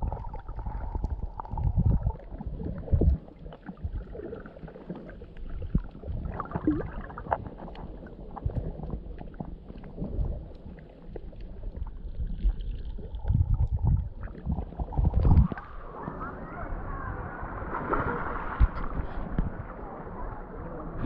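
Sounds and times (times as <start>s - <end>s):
muffled underwater rumble and sloshing: 0.0s - 21.0s.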